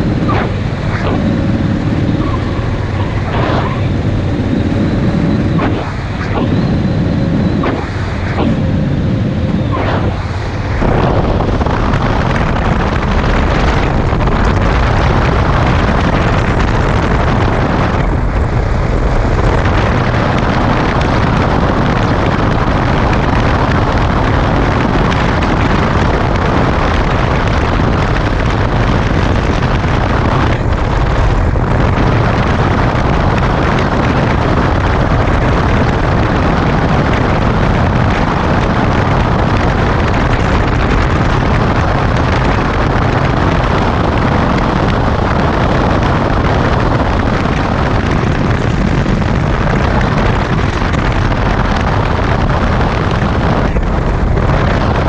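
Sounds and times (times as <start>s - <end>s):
motorcycle engine and tyres: 0.0s - 55.0s
wind rushing over microphone: 0.0s - 55.0s.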